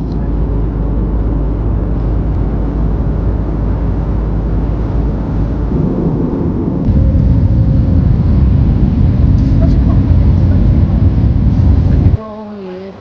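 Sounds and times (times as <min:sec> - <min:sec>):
airliner cabin engine rumble: 0:00.0 - 0:12.2.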